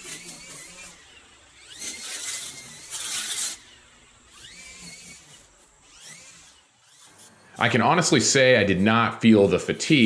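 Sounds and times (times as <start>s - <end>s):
string trimmer cutting grass: 0.0s - 10.0s.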